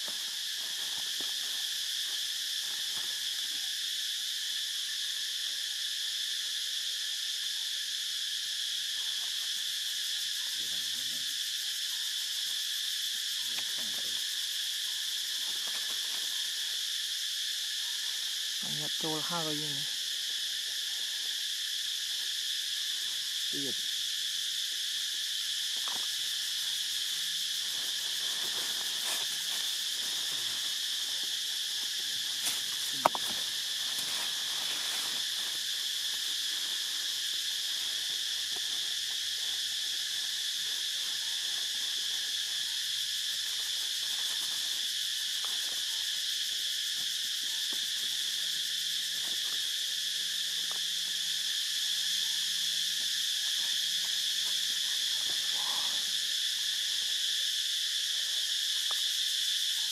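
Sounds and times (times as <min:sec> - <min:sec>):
forest insect chorus: 0:00.0 - 0:59.9.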